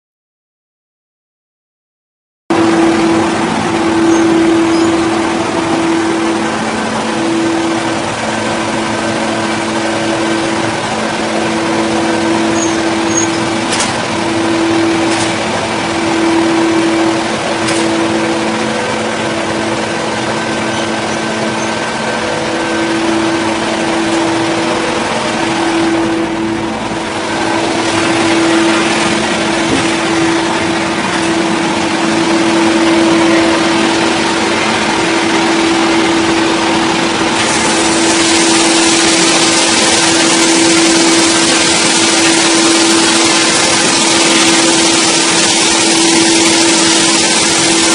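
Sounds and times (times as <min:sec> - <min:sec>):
engine-driven wood saw running: 0:02.5 - 0:47.9.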